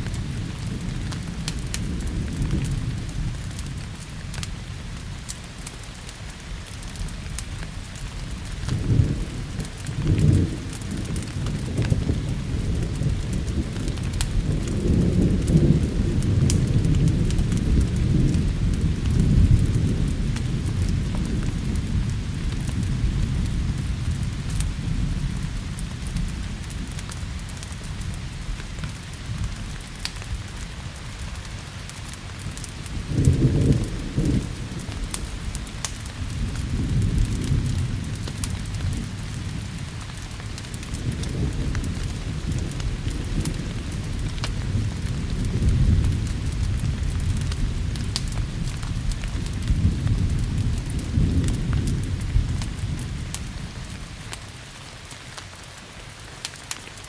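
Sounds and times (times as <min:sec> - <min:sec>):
rolling thunder: 0:00.0 - 0:05.0, 0:08.4 - 0:54.4
small crackles: 0:00.0 - 0:57.0
steady rain: 0:00.0 - 0:57.0.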